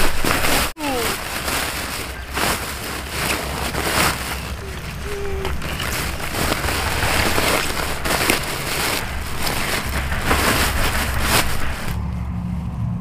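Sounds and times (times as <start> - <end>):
plastic sack rustling: 0.0 - 12.0.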